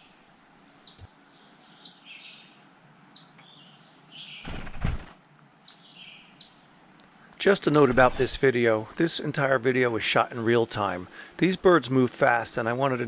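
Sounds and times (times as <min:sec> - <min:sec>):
birds giving high chirps: 0:00.0 - 0:04.7, 0:05.6 - 0:13.0.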